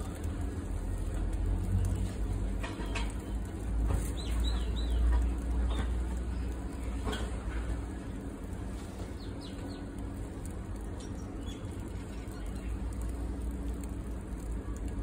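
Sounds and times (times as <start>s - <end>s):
burning paper crackling: 0.0s - 15.0s
low outdoor rumble: 0.0s - 15.0s.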